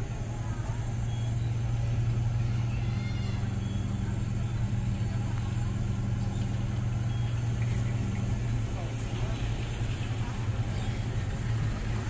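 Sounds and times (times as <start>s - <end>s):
faint voices: 0.0s - 12.0s
ship diesel engines droning: 0.0s - 12.0s.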